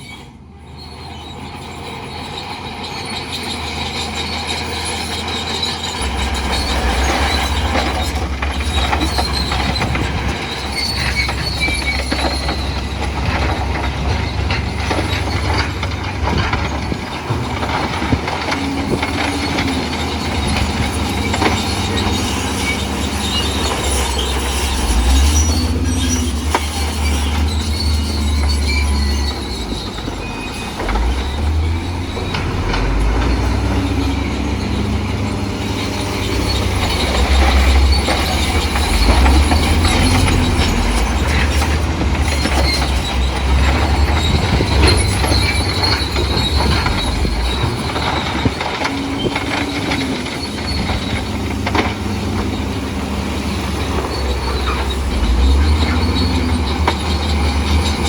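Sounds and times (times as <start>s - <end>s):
diesel engine low rumble: 0.0s - 58.0s
steel tracks clanking: 0.0s - 58.0s.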